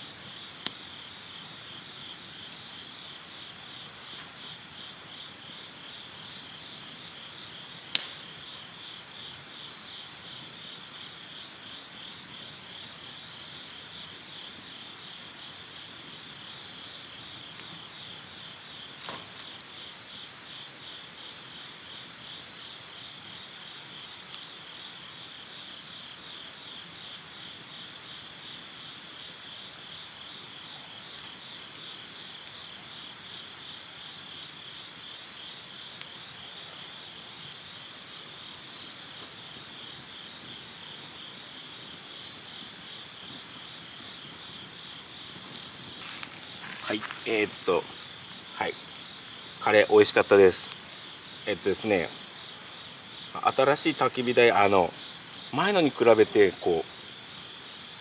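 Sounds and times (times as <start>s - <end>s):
insects chirping: 0.0s - 58.0s
campfire wood popping: 0.1s - 58.0s.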